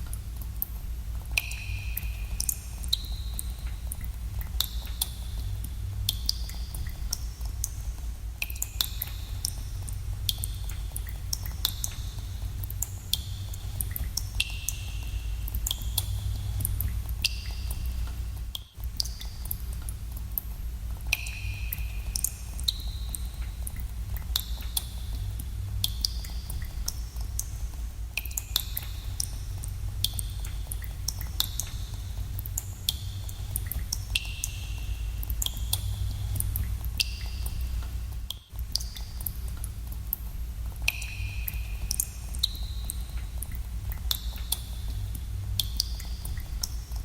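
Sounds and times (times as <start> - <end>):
steady low rumble: 0.0 - 47.0
water drops plinking in cave: 0.0 - 47.0.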